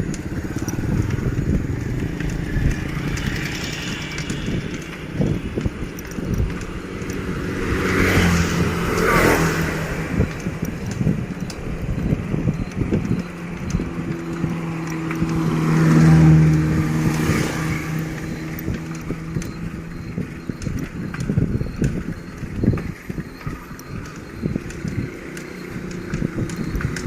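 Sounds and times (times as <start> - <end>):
motor vehicle passing: 0.0 - 27.0
wind rumble on microphone: 0.0 - 27.0.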